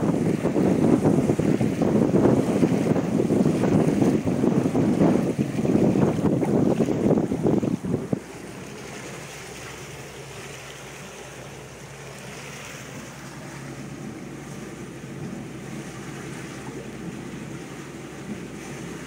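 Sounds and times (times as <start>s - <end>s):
water washing along boat hull: 0.0s - 19.0s
wind buffeting microphone: 0.0s - 19.0s.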